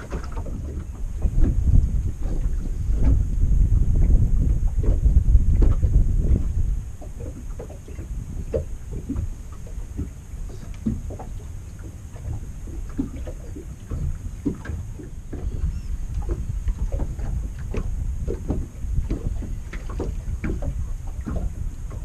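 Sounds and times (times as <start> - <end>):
waves lapping against boat hull: 0.0 - 22.0
wind buffeting microphone: 0.0 - 22.0.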